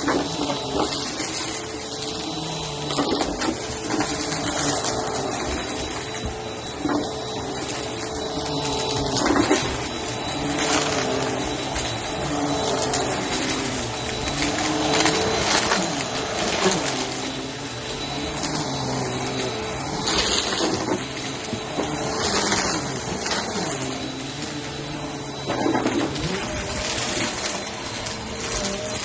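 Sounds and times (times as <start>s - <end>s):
cereal crunching in vacuum: 0.0s - 29.0s
vacuum cleaner running: 0.0s - 29.0s.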